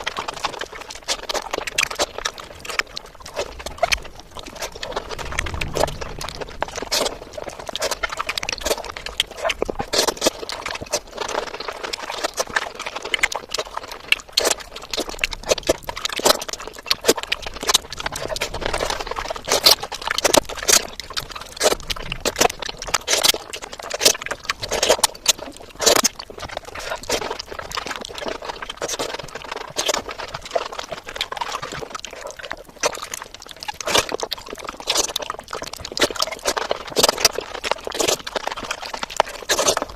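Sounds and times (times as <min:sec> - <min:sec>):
person chewing and lip-smacking: 0:00.0 - 0:39.9.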